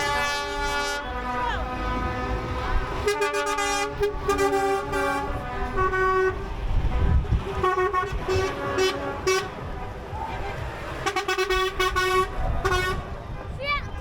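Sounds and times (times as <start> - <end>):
engines rumbling by: 0.0 - 14.0
vehicle horns tooting: 0.0 - 14.0.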